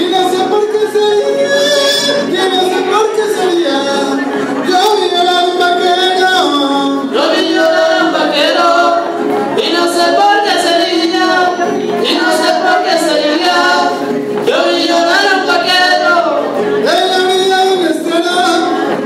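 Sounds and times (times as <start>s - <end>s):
live folk music over sound system: 0.0s - 19.0s
voices singing: 0.0s - 19.0s.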